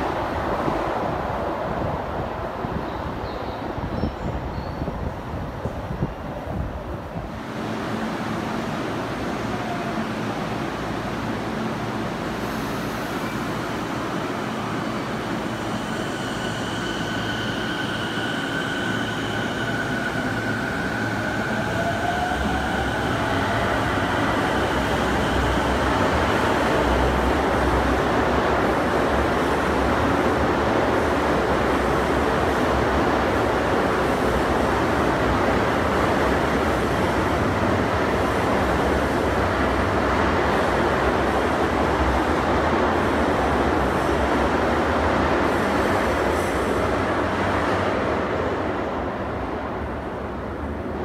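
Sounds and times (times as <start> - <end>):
rumble of train cars: 0.0 - 51.0.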